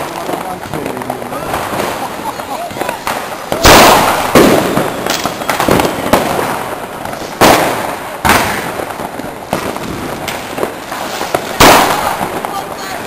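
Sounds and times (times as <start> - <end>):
firework bangs: 0.0 - 13.0
fireworks crackling: 0.0 - 13.0.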